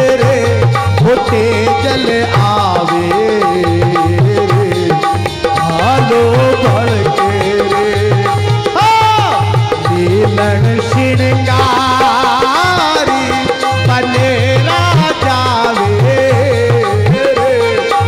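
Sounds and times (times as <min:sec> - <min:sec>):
hand drum rhythm: 0:00.0 - 0:18.0
harmonium melody: 0:00.0 - 0:18.0.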